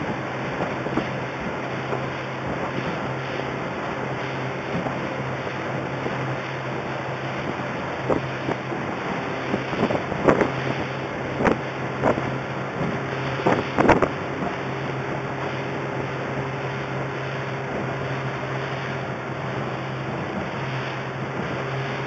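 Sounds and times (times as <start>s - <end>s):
hull slapping waves: 0.0s - 22.0s
motorboat engine drone: 0.0s - 22.0s
rushing water: 0.0s - 22.0s
wind buffeting microphone: 0.0s - 22.0s.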